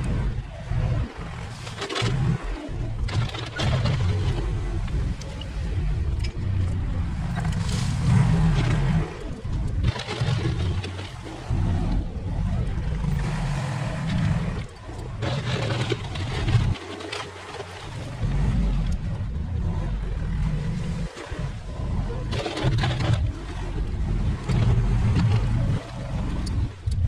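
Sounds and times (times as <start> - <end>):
earth-moving machine engine rumbling: 0.0 - 27.0.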